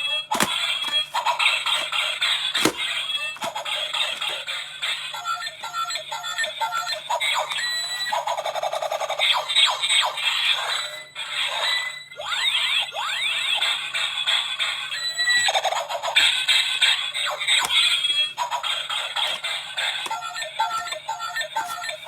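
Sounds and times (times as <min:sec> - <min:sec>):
tinny electronic toy music: 0:00.0 - 0:22.0.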